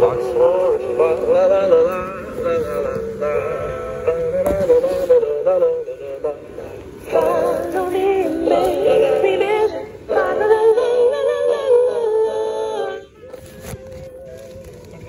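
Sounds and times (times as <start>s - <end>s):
christmas song through small speaker: 0.0s - 15.0s.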